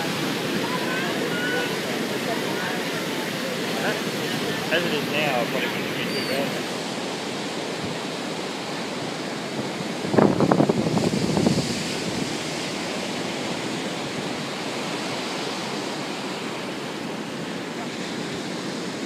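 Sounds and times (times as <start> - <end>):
ocean surf: 0.0 - 19.0
rushing water: 0.0 - 19.0.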